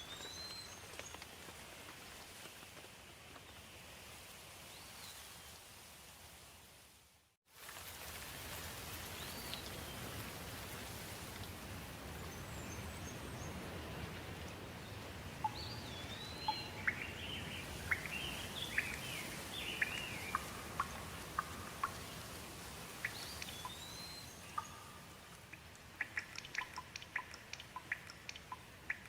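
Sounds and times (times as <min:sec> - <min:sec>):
rain falling: 0:00.0 - 0:06.8, 0:07.5 - 0:29.0.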